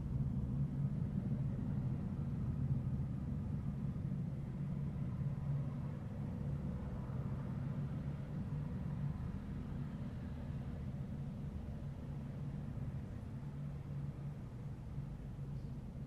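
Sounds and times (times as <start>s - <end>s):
faint hum: 0.0s - 16.0s
low tunnel rumble: 0.0s - 16.0s.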